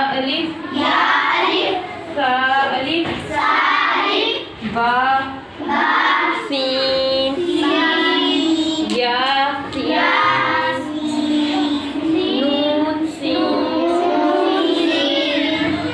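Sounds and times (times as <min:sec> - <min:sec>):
children chanting in sing-song: 0:00.0 - 0:15.9.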